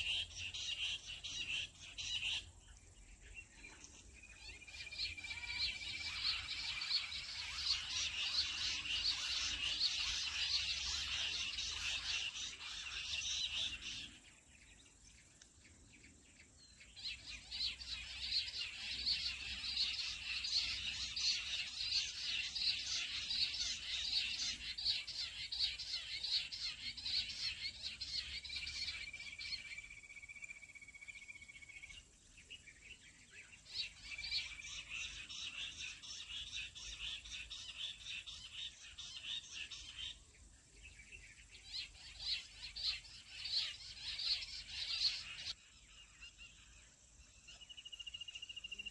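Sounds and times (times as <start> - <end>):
quail chirping chorus: 0.0 - 2.6, 3.2 - 14.3, 16.9 - 30.2, 30.8 - 46.9.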